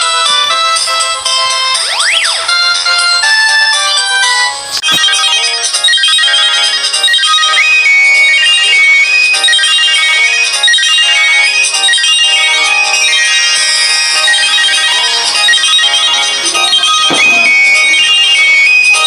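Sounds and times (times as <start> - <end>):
phone ringtone melody: 0.0 - 19.0.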